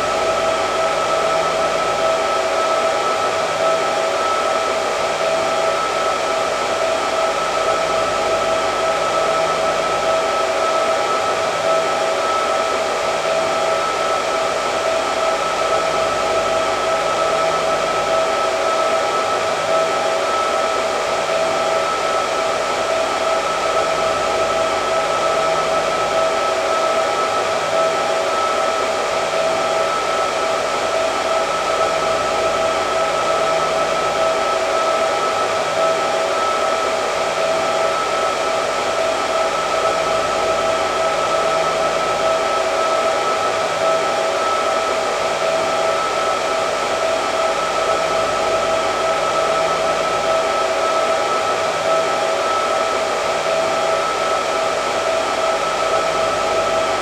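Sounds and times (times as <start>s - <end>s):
hair dryer blowing: 0.0s - 57.0s.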